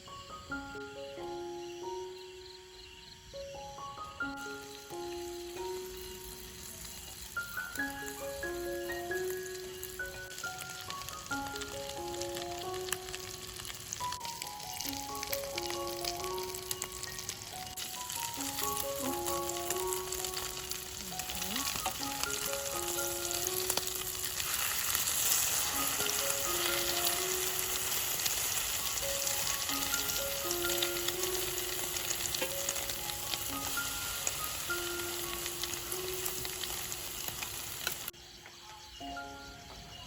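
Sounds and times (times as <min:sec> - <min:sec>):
slow melodic background music: 0:00.0 - 0:40.0
food sizzling in a hot pan: 0:04.0 - 0:38.1.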